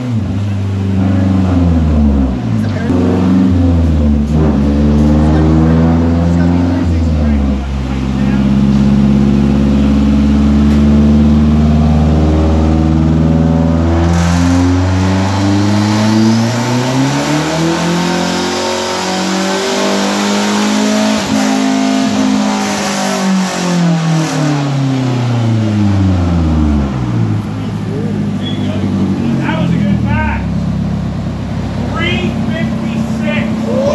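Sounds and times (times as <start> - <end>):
car exhaust revving: 0.0 - 33.9.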